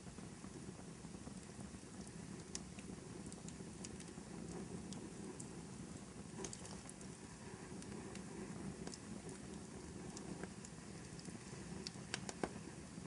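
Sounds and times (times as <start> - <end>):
fire pops and snaps: 0.0 - 13.0
fireplace fire rumbling: 0.0 - 13.0.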